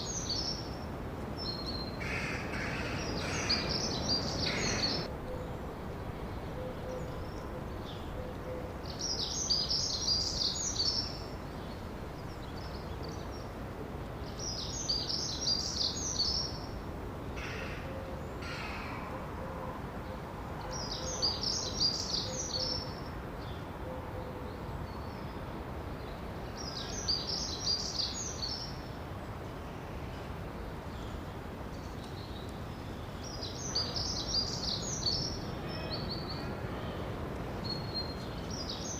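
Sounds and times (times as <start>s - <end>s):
outdoor ambience hiss: 0.0s - 38.9s
songbird singing: 0.0s - 38.9s.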